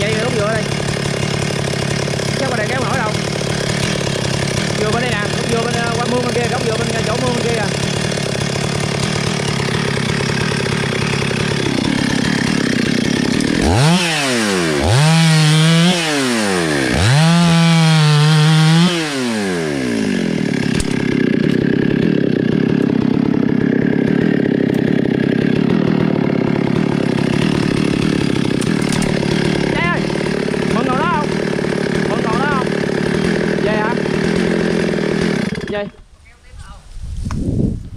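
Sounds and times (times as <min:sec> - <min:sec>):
chainsaw revving and cutting: 0:00.0 - 0:36.1.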